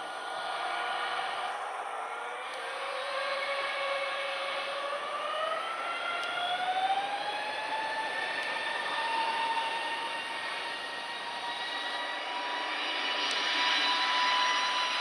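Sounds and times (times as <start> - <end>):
jet engines spooling up: 0.0 - 15.0.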